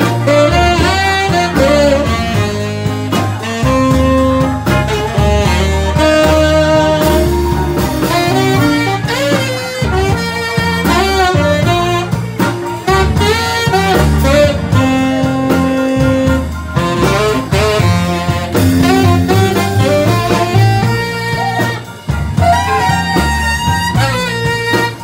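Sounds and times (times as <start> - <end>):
guitar and bass accompaniment: 0.0 - 25.0
saxophone lead melody: 0.0 - 25.0.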